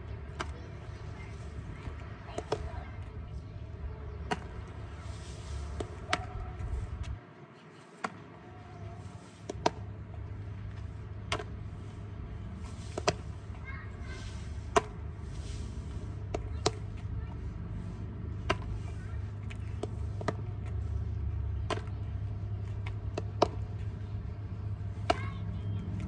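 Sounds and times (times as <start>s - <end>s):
ball bouncing on asphalt: 0.0s - 4.9s, 5.6s - 7.2s, 8.0s - 8.5s, 9.4s - 13.6s, 14.5s - 15.3s, 16.0s - 26.0s
steady low rumble: 0.0s - 7.3s, 8.3s - 26.0s.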